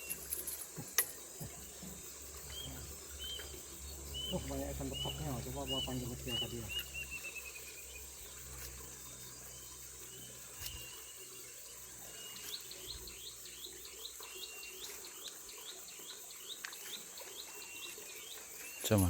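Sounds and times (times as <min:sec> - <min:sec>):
high-pitched insect drone: 0:00.0 - 0:19.0
bird chirping: 0:01.1 - 0:19.0.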